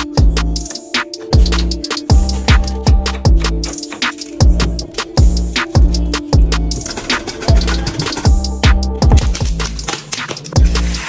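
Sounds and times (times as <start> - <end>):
electronic music with deep bass beat: 0.0 - 11.0.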